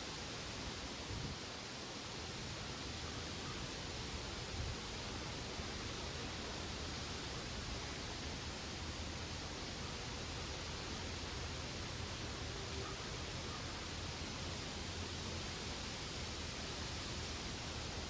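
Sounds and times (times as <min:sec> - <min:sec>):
leaves rustling in wind: 0:00.0 - 0:18.0.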